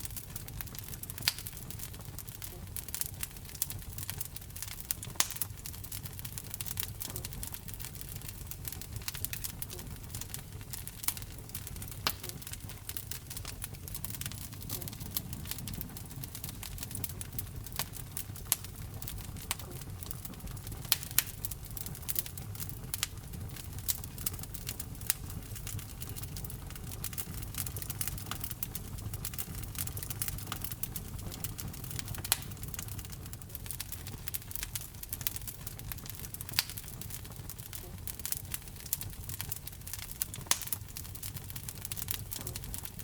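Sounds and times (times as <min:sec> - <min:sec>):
fire rumbling in a fireplace: 0:00.0 - 0:43.0
wood fire crackling and popping: 0:00.0 - 0:43.0.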